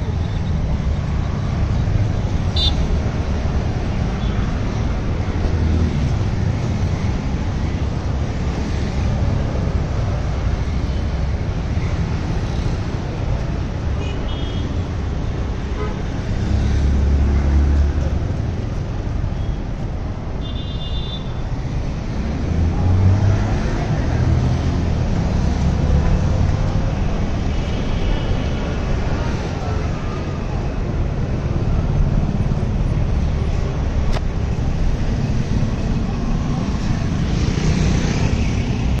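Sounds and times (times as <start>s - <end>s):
traffic rumble: 0.0s - 39.0s.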